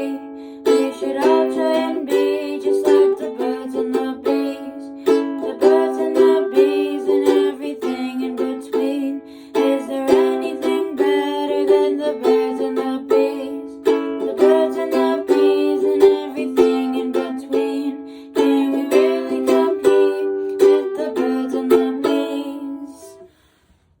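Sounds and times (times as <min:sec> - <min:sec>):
strummed acoustic string instrument: 0:00.0 - 0:23.6.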